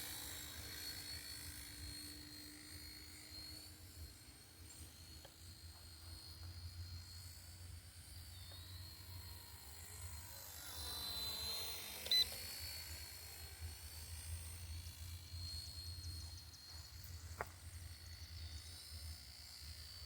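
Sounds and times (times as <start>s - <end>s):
rc helicopter motor whine: 0.0s - 20.0s.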